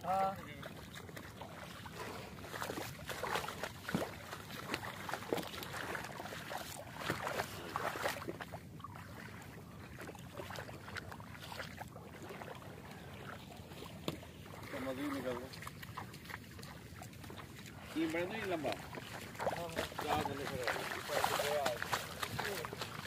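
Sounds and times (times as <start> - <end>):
feet wading through water: 0.0 - 23.0.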